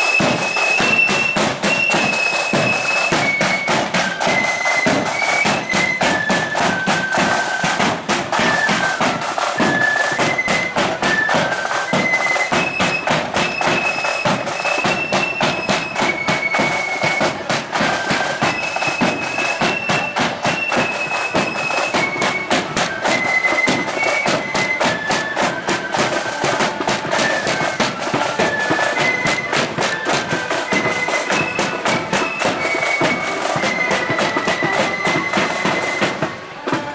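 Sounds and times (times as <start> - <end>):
flutes playing march melody: 0.0 - 36.9
marching drums: 0.0 - 36.9.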